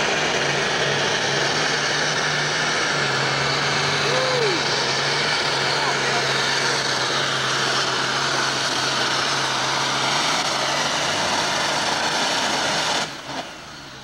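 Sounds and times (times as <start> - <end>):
tractor engine at full power: 0.0 - 14.0.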